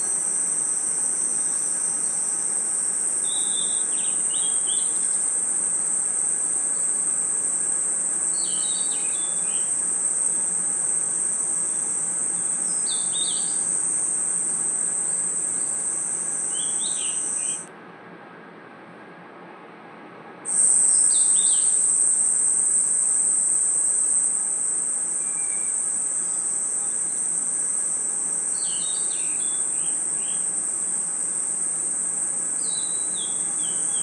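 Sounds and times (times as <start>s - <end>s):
cricket chirps: 0.0s - 17.7s, 20.5s - 34.0s
crickets shrill drone: 0.0s - 17.7s, 20.5s - 34.0s.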